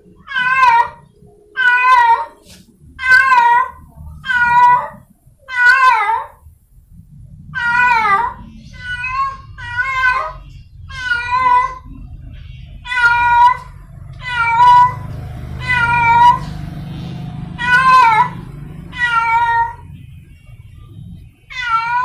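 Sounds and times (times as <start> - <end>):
cat meowing: 0.1 - 6.4, 7.5 - 12.1, 12.8 - 20.0, 21.5 - 22.0
low steady rumble: 2.6 - 22.0.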